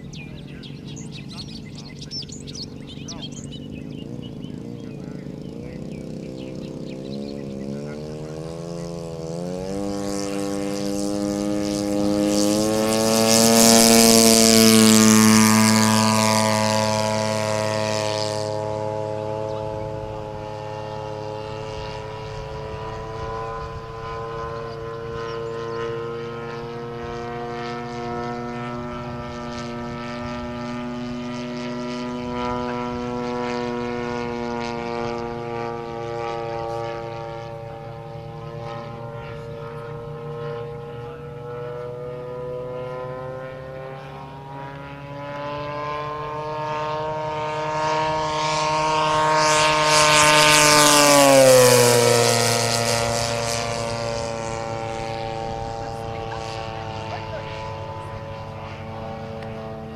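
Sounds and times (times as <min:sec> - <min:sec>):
model airplane engine droning: 0:00.0 - 0:59.9.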